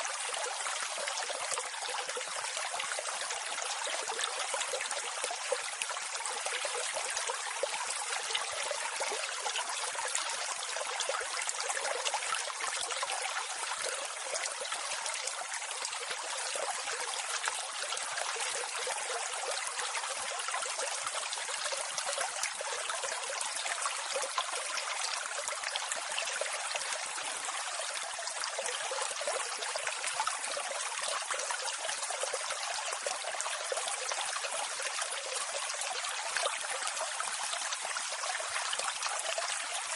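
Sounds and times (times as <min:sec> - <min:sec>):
small waterfall rushing and splashing: 0:00.0 - 0:39.9.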